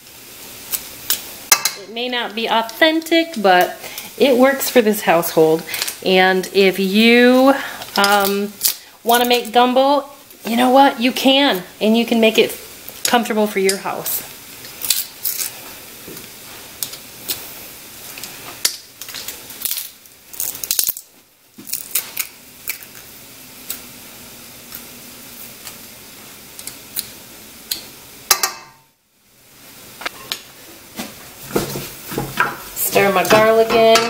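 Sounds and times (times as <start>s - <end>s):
steady low hiss: 0.0s - 34.0s.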